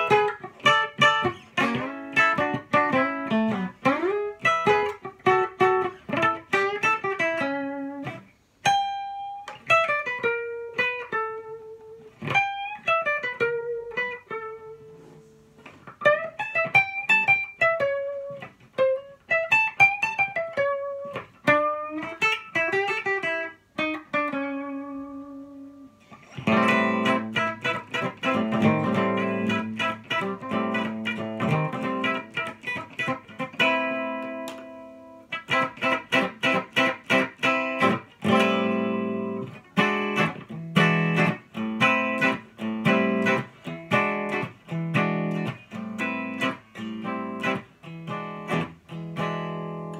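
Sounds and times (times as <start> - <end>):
electric guitar blues jazz playing: 0.0 - 49.9.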